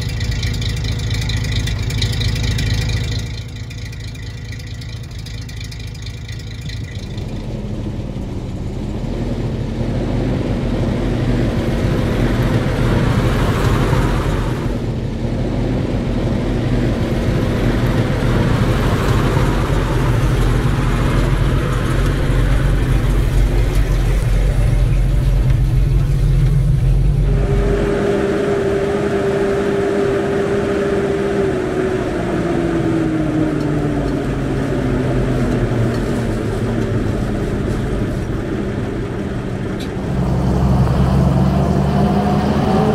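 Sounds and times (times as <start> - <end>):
steady whine: 0.0 - 42.9
truck engine rumble: 0.0 - 42.9.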